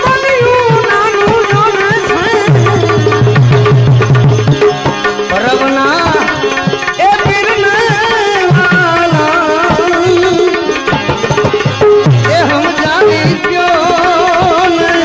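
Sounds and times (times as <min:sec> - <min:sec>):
ornamented melodic instrument: 0:00.0 - 0:15.0
tabla beat: 0:00.0 - 0:15.0.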